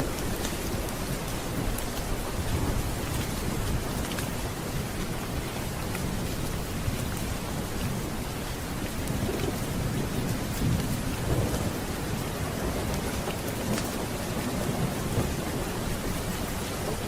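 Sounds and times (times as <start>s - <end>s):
heavy rain: 0.0s - 17.0s
low rolling thunder: 0.0s - 17.0s.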